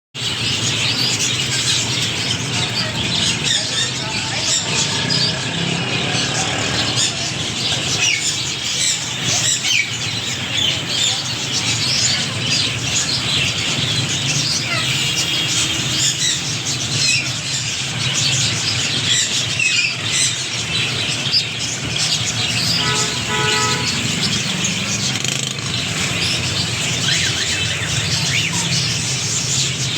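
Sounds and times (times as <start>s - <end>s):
small birds chirping: 0.2s - 29.9s.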